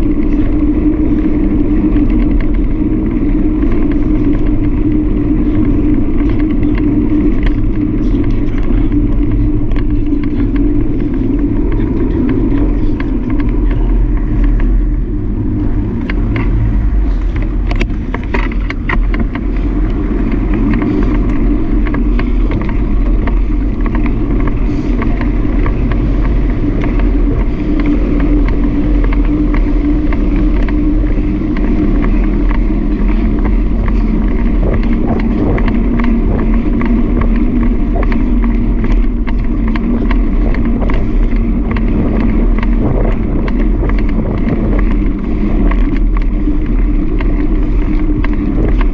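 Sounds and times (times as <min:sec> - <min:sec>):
vehicle engine droning: 0:00.0 - 0:48.9
wind rushing over microphone: 0:00.0 - 0:48.9.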